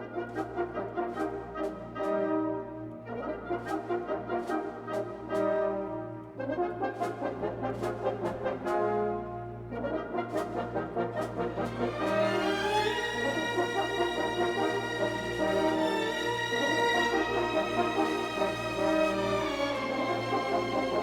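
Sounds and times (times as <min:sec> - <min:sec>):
brass melody: 0:00.0 - 0:21.0.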